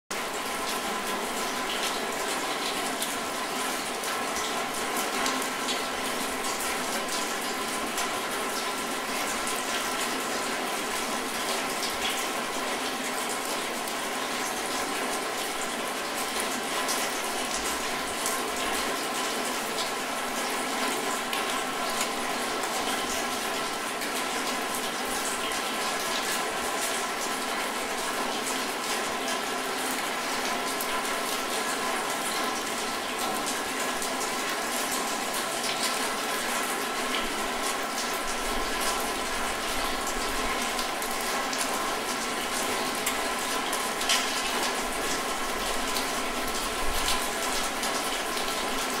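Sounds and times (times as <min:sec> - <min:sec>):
steady rain: 0:00.1 - 0:49.0.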